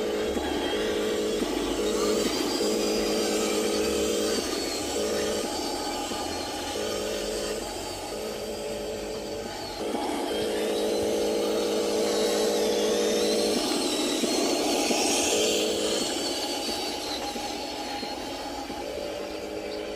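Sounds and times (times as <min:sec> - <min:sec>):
high whine: 0:00.0 - 0:19.9
toy truck motor drone: 0:00.0 - 0:19.9.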